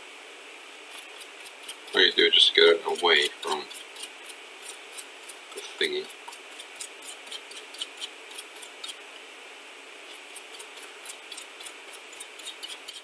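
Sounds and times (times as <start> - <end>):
brush scrubbing circuit board: 0.9 - 9.0, 10.1 - 13.0.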